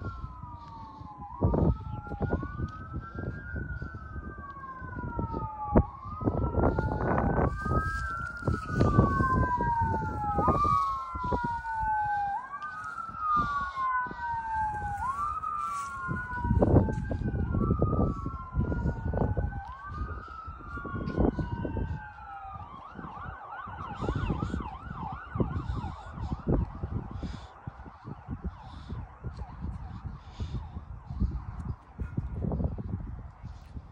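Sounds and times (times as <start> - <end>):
emergency siren wailing and yelping: 0.0 - 33.9.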